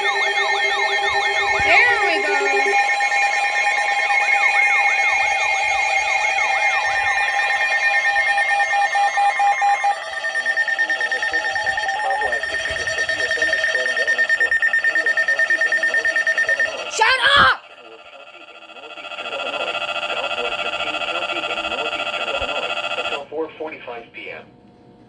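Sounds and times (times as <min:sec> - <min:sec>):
rapid beeping: 0:00.0 - 0:23.3
weather alert siren warble: 0:00.0 - 0:23.3
steady alarm tones: 0:00.0 - 0:23.4.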